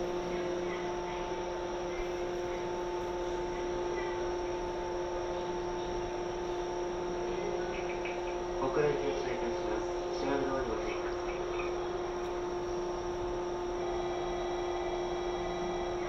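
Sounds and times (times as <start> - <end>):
electric train electrical hum: 0.0 - 16.0.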